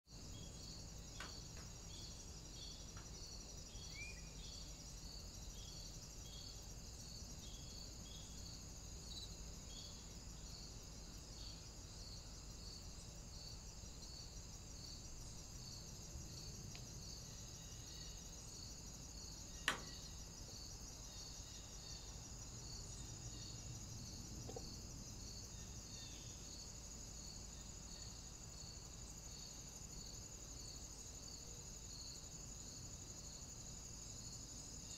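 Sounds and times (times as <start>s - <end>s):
continuous high insect trill: 0.0s - 34.9s
insects chirping: 0.1s - 34.9s.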